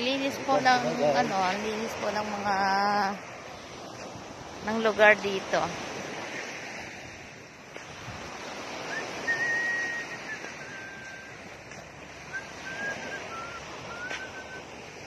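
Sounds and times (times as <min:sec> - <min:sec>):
small waves washing on sand: 0:00.0 - 0:15.0
wind buffeting microphone: 0:00.0 - 0:15.0.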